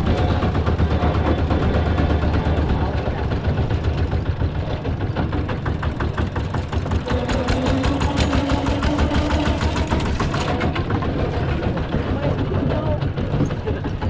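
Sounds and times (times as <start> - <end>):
combine harvester engine knocking: 0.0 - 14.0.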